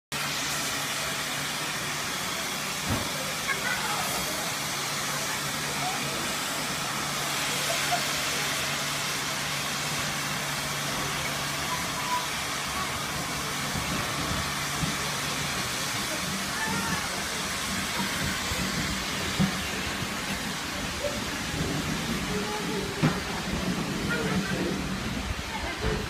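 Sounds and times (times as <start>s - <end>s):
steam train hissing: 0.1s - 26.0s
voices from platform: 0.8s - 26.0s.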